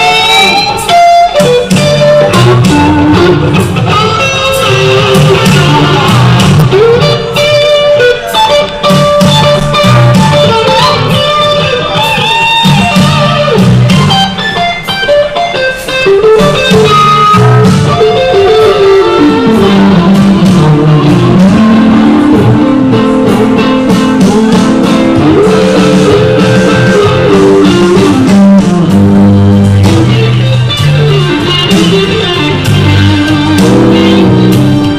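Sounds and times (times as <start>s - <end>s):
blues rock band playing: 0.0s - 34.9s
electric guitar lead: 0.0s - 34.9s.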